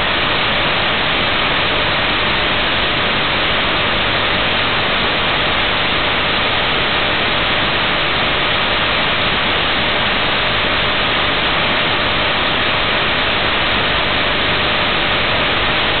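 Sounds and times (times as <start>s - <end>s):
television static hiss: 0.0s - 16.0s.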